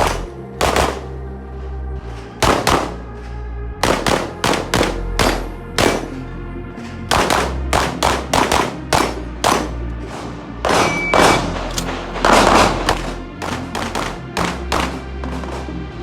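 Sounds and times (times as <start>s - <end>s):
handgun shots: 0.0s - 1.2s, 2.4s - 3.2s, 3.8s - 6.2s, 7.1s - 15.7s
background music: 0.0s - 16.0s.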